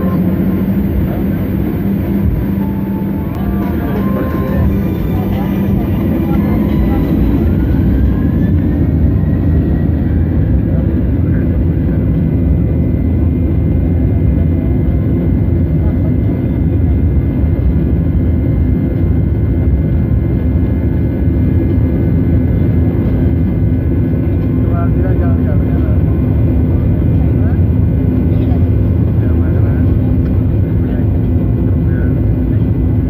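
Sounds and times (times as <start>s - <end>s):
high jet engine whine: 0.0s - 33.0s
jet engine rumble: 0.0s - 33.0s.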